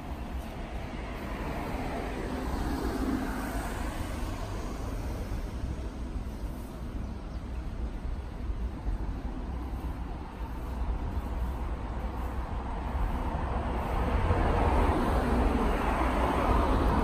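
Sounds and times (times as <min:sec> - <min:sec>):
vehicle passing: 0:00.0 - 0:06.7, 0:09.2 - 0:17.0
road traffic rumble: 0:00.0 - 0:17.0.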